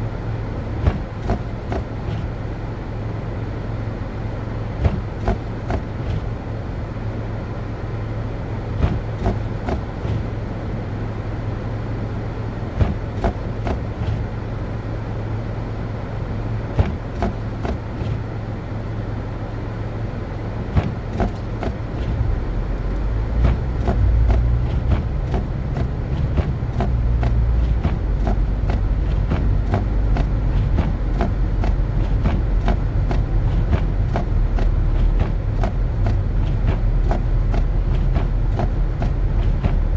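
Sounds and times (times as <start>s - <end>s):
car engine and tyres droning: 0.0s - 39.9s.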